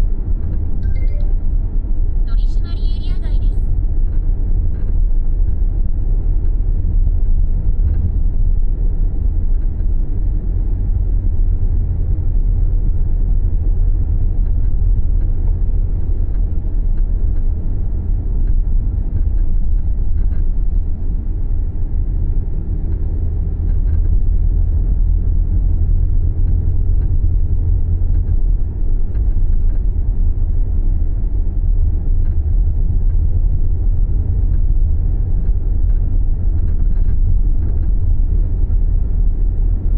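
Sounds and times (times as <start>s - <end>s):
road and drivetrain rumble: 0.0s - 39.9s.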